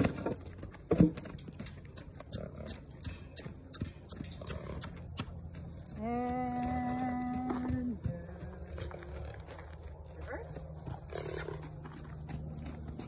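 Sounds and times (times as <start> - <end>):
horse hooves thudding on dirt: 0.0 - 13.0.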